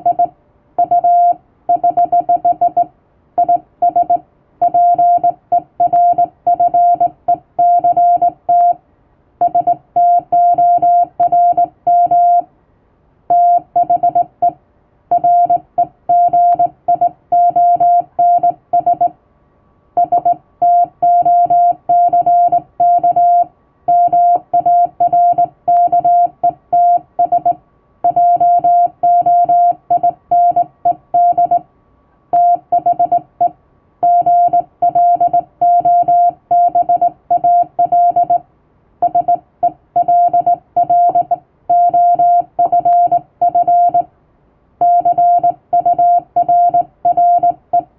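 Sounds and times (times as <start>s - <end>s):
morse code beeping tone: 0.0s - 8.8s, 9.4s - 12.4s, 13.3s - 19.1s, 20.0s - 31.6s, 32.4s - 38.4s, 39.0s - 44.1s, 44.8s - 47.9s.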